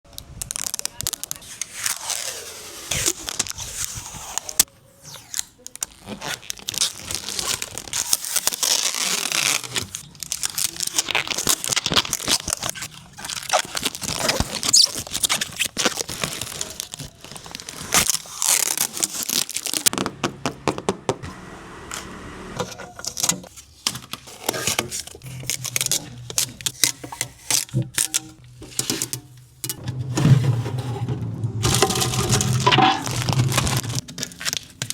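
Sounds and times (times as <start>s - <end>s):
plastic wrap and cardboard tearing: 0.1s - 20.2s, 22.6s - 34.9s.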